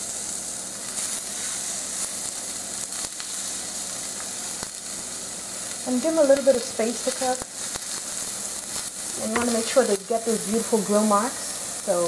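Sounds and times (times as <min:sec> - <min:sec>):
chicken sizzling on grill pan: 0:00.0 - 0:12.0.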